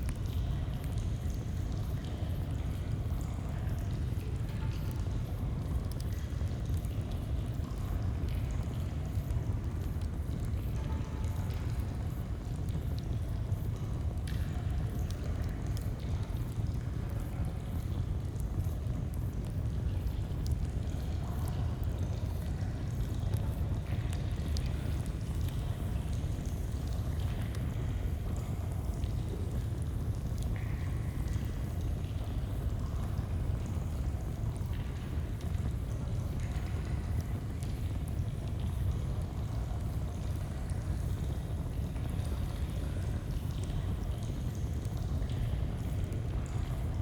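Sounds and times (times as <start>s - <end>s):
faint campfire crackles: 0.0s - 47.0s.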